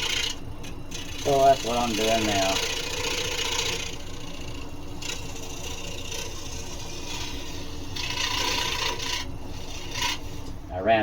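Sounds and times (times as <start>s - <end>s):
saw blade scraping wood: 0.0s - 10.6s
scroll saw running: 0.0s - 10.6s.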